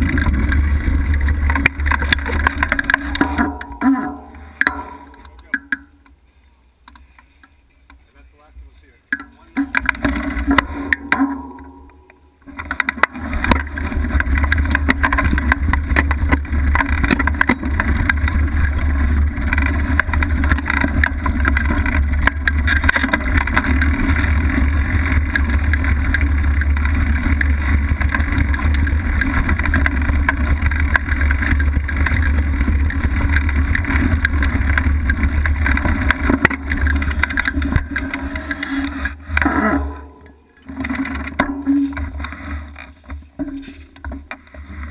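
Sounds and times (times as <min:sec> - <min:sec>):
mountain bike rolling over dirt trail: 0:00.0 - 0:06.2, 0:06.8 - 0:44.9.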